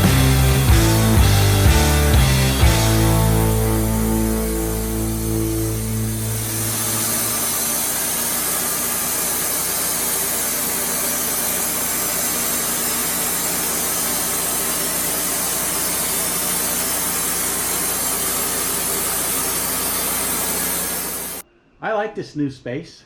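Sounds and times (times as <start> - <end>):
portable sawmill running: 0.0 - 21.4.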